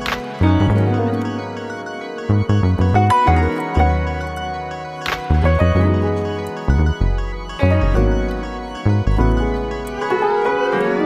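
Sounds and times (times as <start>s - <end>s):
background music with bass line: 0.0s - 10.8s.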